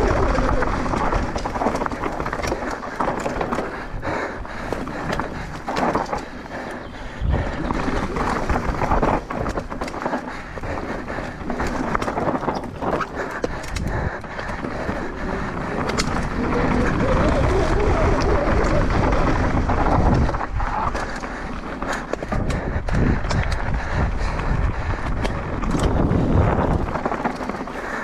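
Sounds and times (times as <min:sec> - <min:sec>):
bike rattling: 0:00.0 - 0:28.0
gravel strikes ticking: 0:00.0 - 0:28.0
tyres crunching over dirt: 0:00.0 - 0:28.0.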